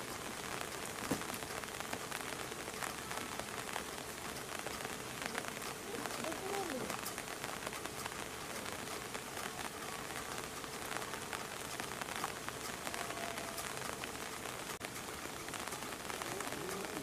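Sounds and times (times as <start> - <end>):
rain drops ticking on surfaces: 0.0 - 17.0.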